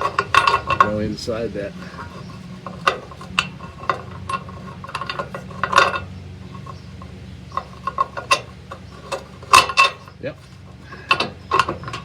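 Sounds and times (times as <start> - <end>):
metal hardware clinking: 0.0 - 12.0
steady low hum: 0.0 - 12.0.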